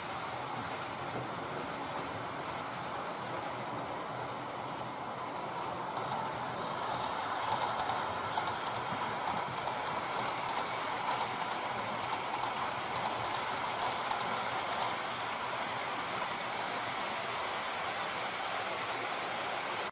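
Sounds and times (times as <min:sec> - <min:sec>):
model train whirring: 0:00.0 - 0:19.9
wheels clicking over rail joints: 0:00.2 - 0:18.4.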